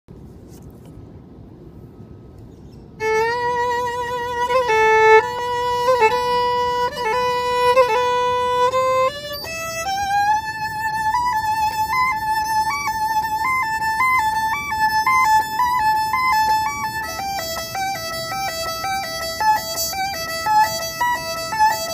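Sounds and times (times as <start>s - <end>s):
solo violin: 3.0s - 21.9s.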